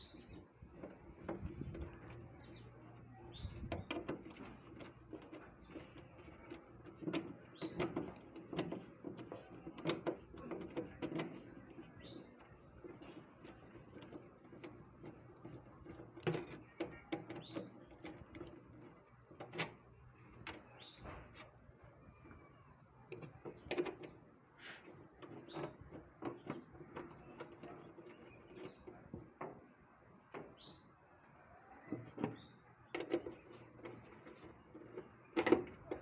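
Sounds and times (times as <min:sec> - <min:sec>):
irregular clicks and knocks: 0:00.0 - 0:31.0, 0:31.8 - 0:36.0.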